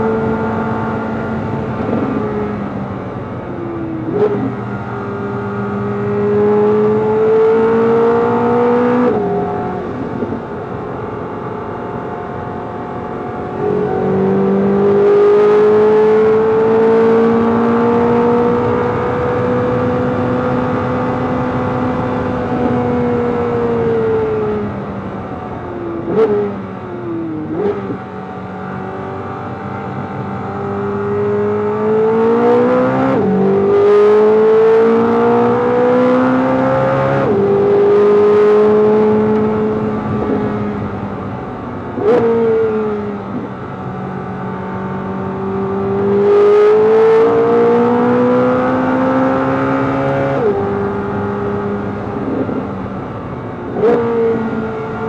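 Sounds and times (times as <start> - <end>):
car engine at full throttle: 0.0 - 55.0.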